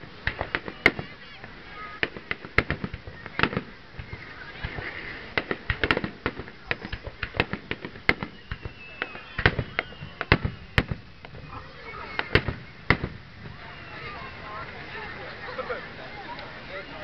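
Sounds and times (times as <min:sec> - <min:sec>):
fireworks bangs and pops: 0:00.0 - 0:14.3.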